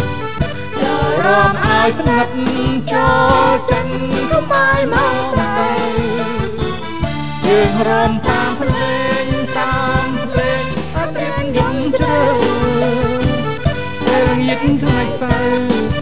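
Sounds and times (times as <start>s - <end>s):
backing music with drum beat: 0.0s - 16.0s
people singing together: 0.8s - 6.7s, 7.4s - 16.0s.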